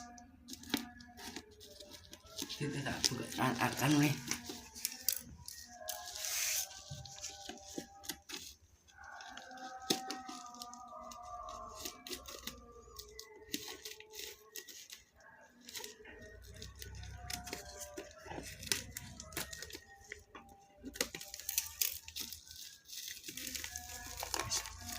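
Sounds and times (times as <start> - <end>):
faint background music: 0.0 - 24.9
packaging tearing and rustling: 0.4 - 20.2, 21.0 - 24.9.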